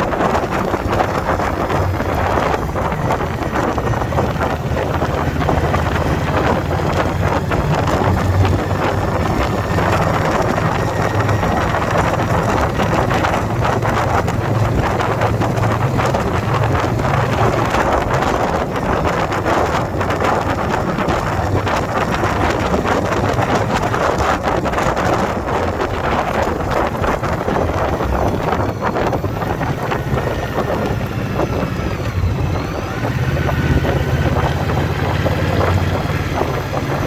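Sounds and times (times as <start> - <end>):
motorcycle engine running: 0.0 - 37.0
wind buffeting microphone: 0.0 - 37.0.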